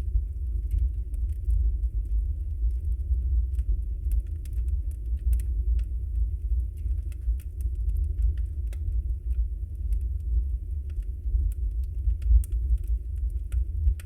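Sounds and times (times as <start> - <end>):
deep rumble of flames: 0.0 - 14.0
logs crackling and popping: 0.0 - 14.0.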